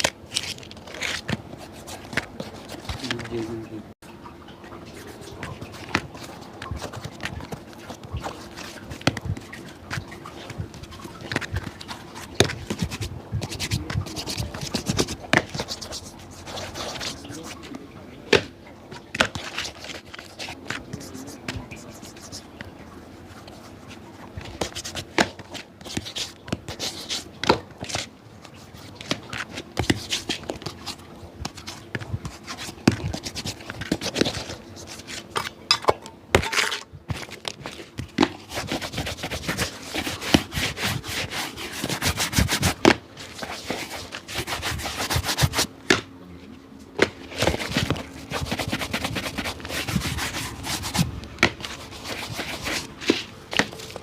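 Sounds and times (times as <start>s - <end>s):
rubbing and scratching on shoe: 0.0s - 3.6s, 4.9s - 17.8s, 18.9s - 35.6s, 36.4s - 46.0s, 47.0s - 54.0s.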